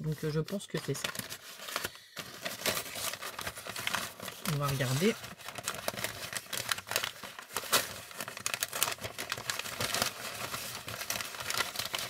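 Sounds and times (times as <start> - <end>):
paper gift wrap crinkling: 0.0 - 12.0.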